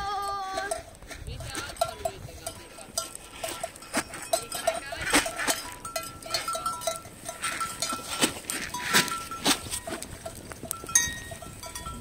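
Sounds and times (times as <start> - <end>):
small bell ringing: 0.0 - 12.0.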